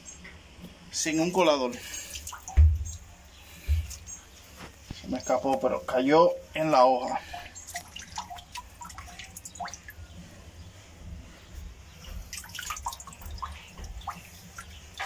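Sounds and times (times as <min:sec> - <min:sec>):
water splashing and dripping: 0:00.2 - 0:15.0.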